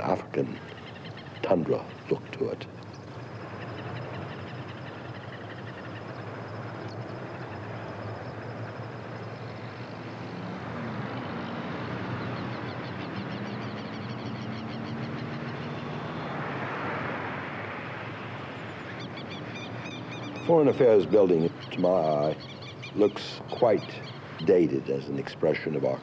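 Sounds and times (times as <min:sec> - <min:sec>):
distant road traffic: 0:00.0 - 0:26.0.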